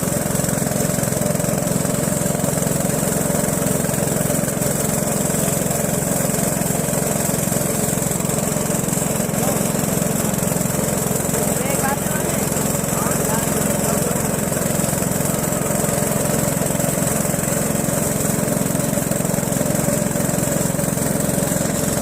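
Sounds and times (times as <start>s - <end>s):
boat motor running: 0.0s - 22.0s.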